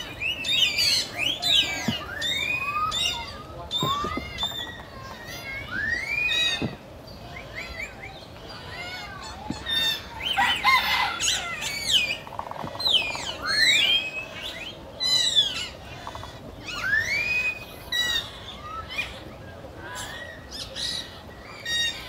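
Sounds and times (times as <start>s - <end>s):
birds whistling and chirping: 0.0s - 22.0s.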